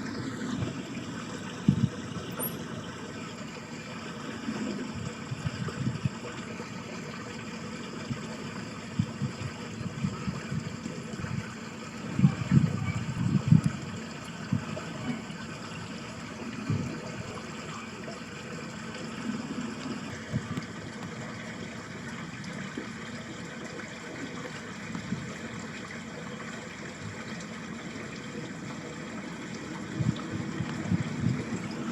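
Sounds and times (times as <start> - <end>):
water rushing in ditch: 0.0 - 31.9.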